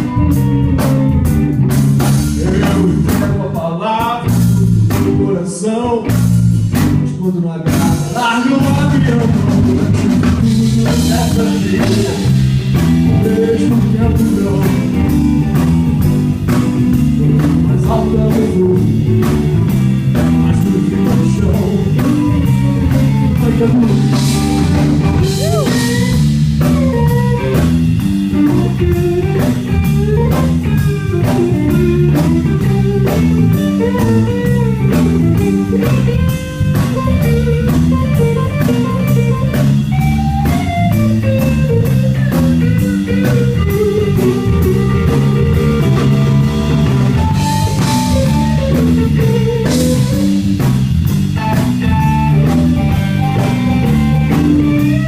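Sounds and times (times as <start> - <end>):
rock band guitar solo: 0.0 - 3.6, 7.7 - 55.0.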